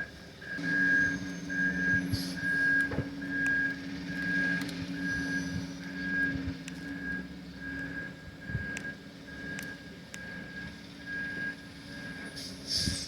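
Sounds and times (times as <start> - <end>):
truck reversing alarm beeping: 0.0 - 13.0
diesel engine running: 0.2 - 13.0.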